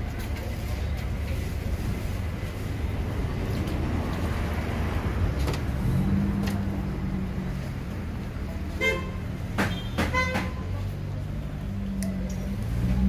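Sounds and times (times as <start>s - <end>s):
engine hum: 0.0s - 9.6s, 10.5s - 13.0s
low rumble of traffic: 0.0s - 13.0s.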